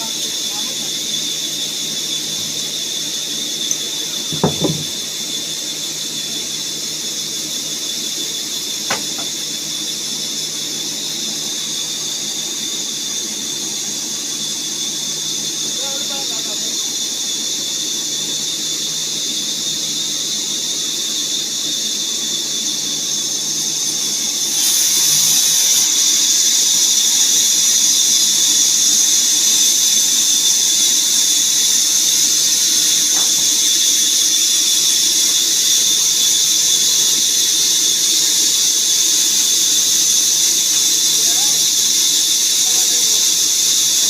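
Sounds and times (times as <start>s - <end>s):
woodworking machine whining: 0.0s - 44.0s.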